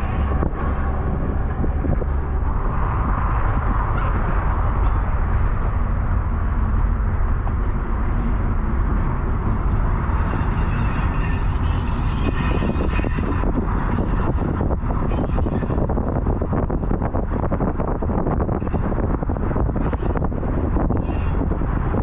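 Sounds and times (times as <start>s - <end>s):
vehicle rumbling in motion: 0.0s - 22.0s
wind buffeting microphone: 0.0s - 22.0s.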